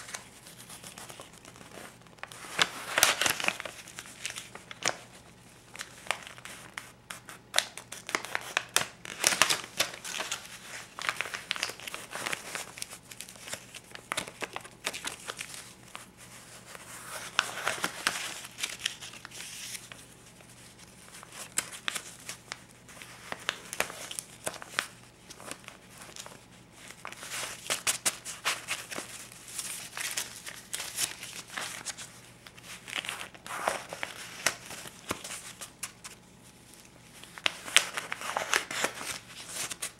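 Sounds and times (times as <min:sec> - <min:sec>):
paper banknotes crinkling: 0:00.0 - 0:39.9.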